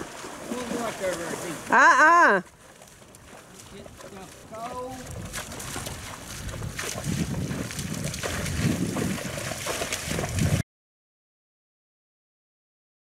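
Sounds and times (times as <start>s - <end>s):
horse sloshing through water: 0.0s - 10.6s.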